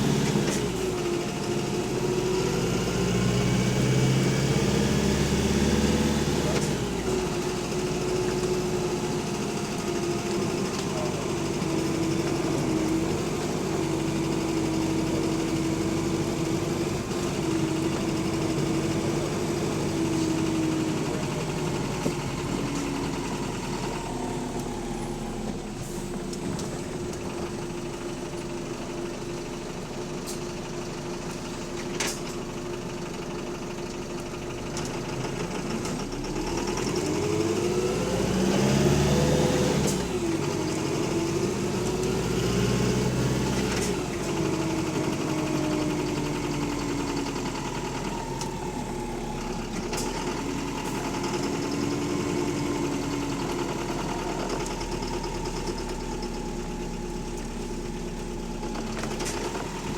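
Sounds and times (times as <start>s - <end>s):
bus diesel engine revving: 0.0s - 33.2s, 34.4s - 59.9s
engine knocking: 0.0s - 59.9s.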